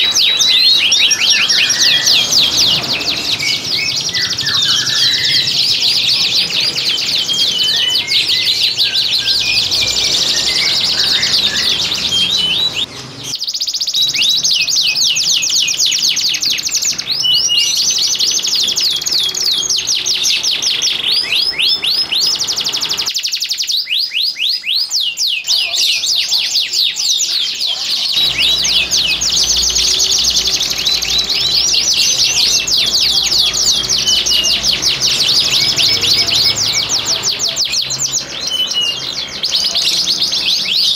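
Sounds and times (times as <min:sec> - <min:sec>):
canaries singing trills: 0:00.0 - 0:40.9.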